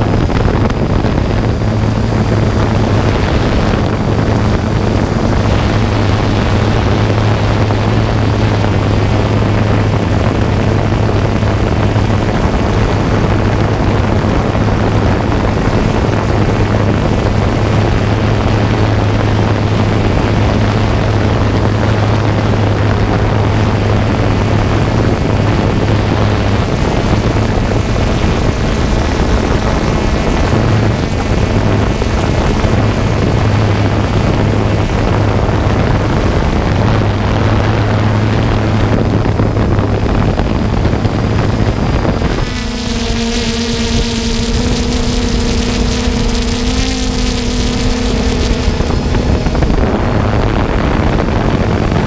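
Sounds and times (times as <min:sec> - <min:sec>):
drone propellers whirring: 0:00.0 - 0:52.0.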